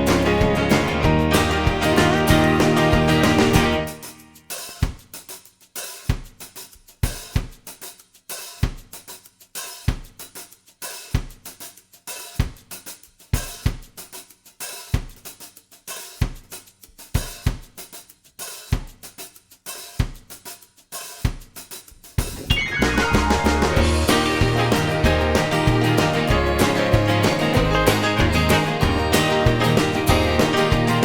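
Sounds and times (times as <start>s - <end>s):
drum kit playing a beat: 0.0s - 31.0s.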